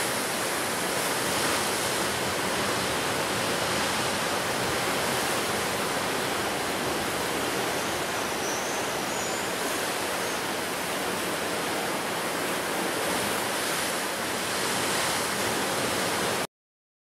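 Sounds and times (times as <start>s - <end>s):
ocean surf breaking on shore: 0.0s - 16.5s.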